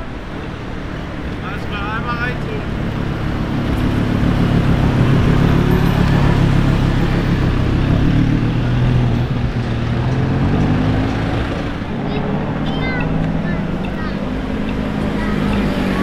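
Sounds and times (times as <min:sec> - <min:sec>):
sports car engine passing: 0:00.1 - 0:16.0.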